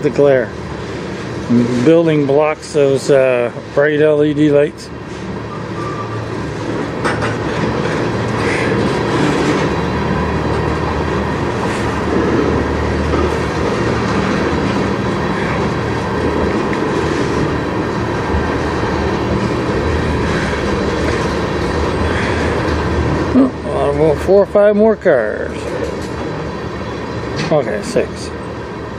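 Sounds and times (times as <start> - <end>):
train wheels rumbling on track: 0.0 - 28.9.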